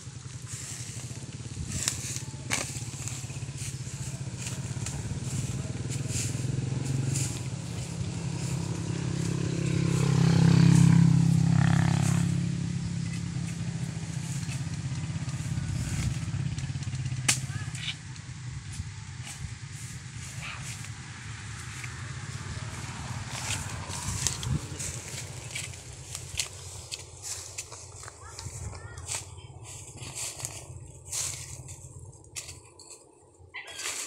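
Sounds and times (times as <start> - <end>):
small engine droning: 0.0 - 34.0.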